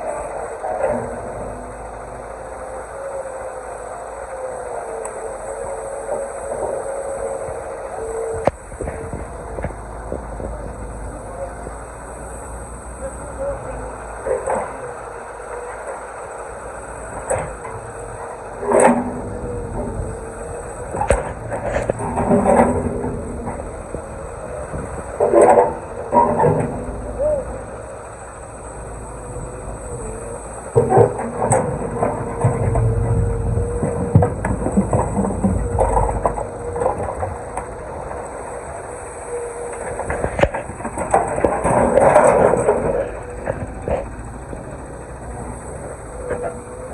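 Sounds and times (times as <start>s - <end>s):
excavator running: 0.0s - 46.9s.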